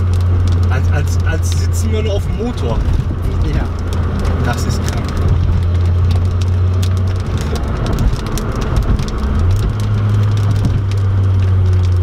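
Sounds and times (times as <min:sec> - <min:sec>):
car engine drone in cabin: 0:00.0 - 0:12.0
sharp ticks and crackles: 0:00.0 - 0:12.0.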